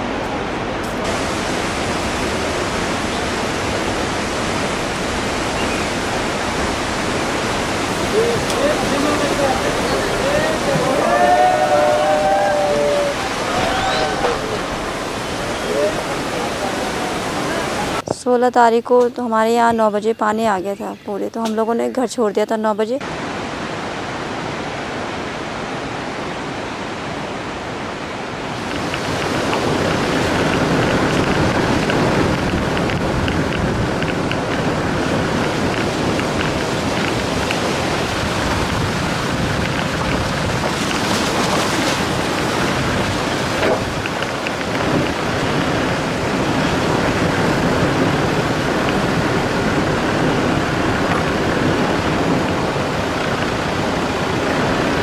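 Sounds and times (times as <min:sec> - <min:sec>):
river in flood rushing: 0:00.0 - 0:18.1, 0:23.0 - 0:55.0.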